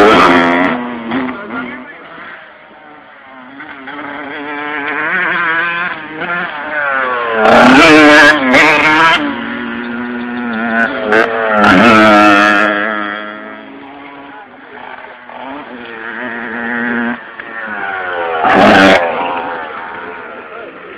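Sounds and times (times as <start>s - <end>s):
dirt bikes revving: 0.0s - 20.9s.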